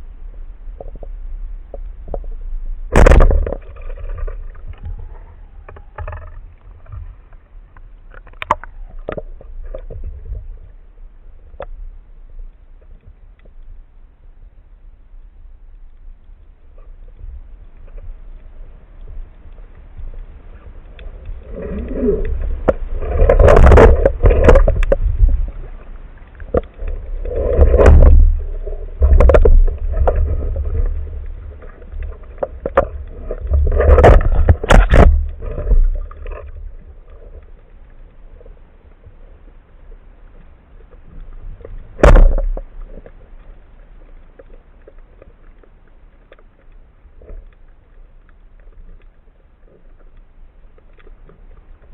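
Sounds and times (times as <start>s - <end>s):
water gurgling and sloshing: 0.0s - 51.9s.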